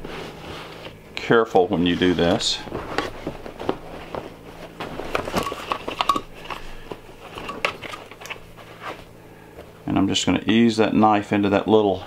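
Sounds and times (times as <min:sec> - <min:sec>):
pleated fabric rustling: 0:00.0 - 0:09.8.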